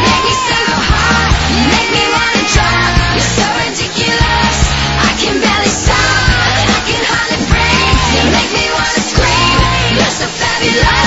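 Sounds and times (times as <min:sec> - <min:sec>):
loud rock music with singing: 0:00.0 - 0:11.0.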